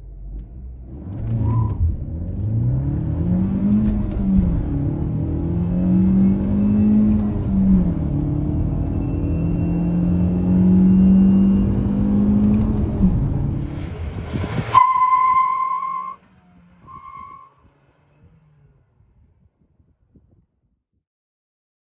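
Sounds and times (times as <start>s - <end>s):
car engine accelerating hard: 0.0s - 19.4s.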